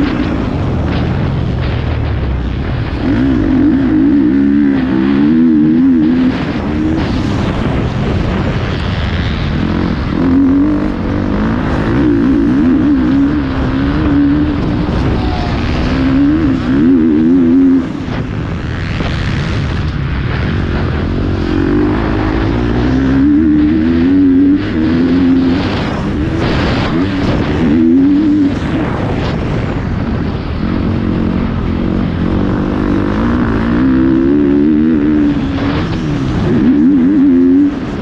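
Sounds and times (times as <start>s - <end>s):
motocross bike engine revving: 0.0s - 38.0s.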